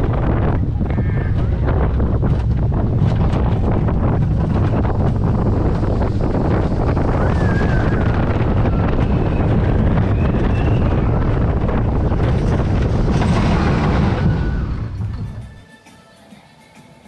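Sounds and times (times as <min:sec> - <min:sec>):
roller coaster rumbling on track: 0:00.0 - 0:15.6
wind buffeting microphone: 0:00.0 - 0:15.6.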